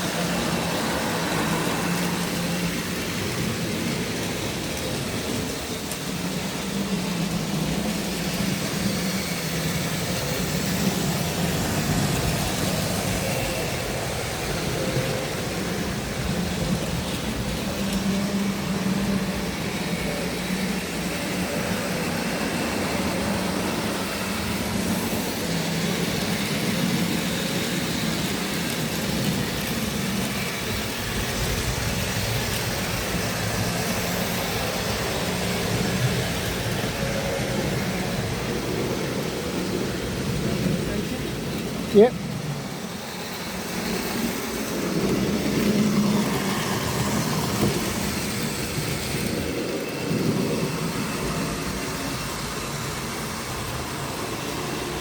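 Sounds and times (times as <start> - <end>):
model train motor whir and rumble: 0.0 - 55.0.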